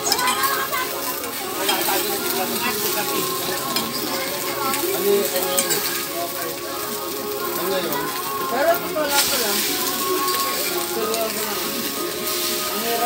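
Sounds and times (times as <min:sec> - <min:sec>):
eggs sizzling in a frying pan: 0:00.0 - 0:13.0.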